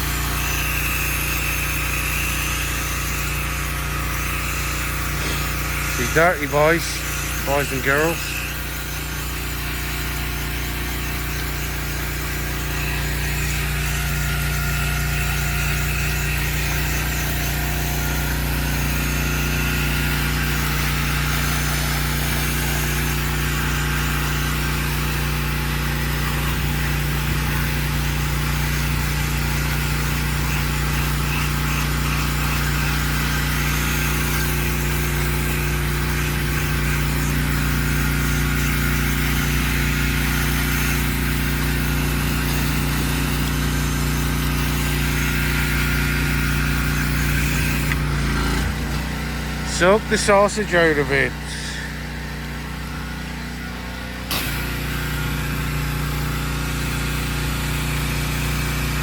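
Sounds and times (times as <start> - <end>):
pressure washer engine running: 0.0 - 59.0.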